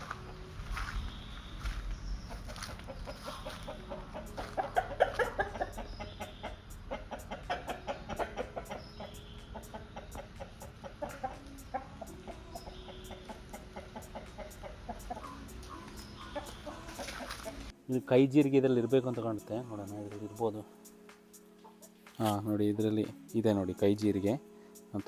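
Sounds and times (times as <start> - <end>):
chickens clucking: 1.6 - 25.0.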